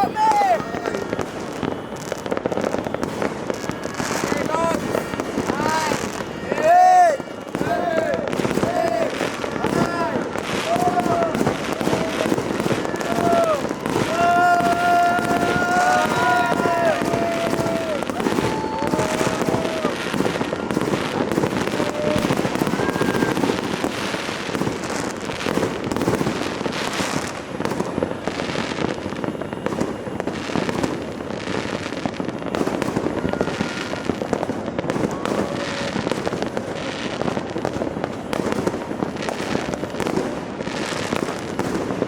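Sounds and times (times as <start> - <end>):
firework whistles: 0.0 - 42.0
fireworks bangs and crackling: 0.0 - 42.0.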